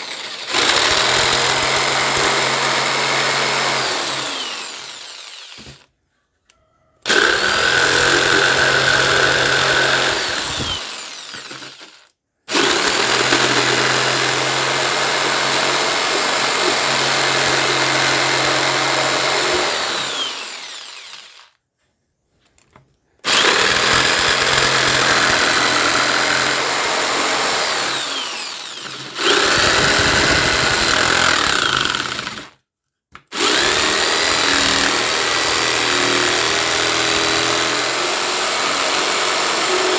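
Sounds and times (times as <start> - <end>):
jigsaw cutting wooden board: 0.0 - 5.9, 7.0 - 21.5, 23.2 - 32.6, 33.3 - 39.9.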